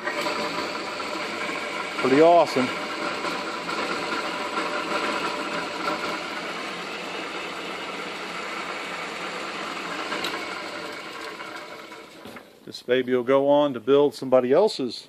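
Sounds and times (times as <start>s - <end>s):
metal lathe running: 0.0s - 12.6s.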